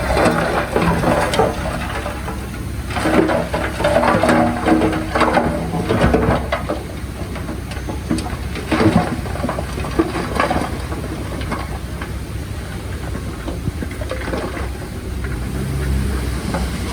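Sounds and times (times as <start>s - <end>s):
diesel engine rumble: 0.0s - 16.9s.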